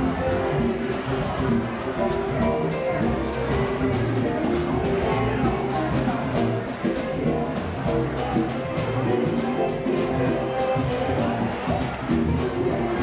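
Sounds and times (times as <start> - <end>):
guitar: 0.0 - 13.0
steady drum beat: 0.0 - 13.0.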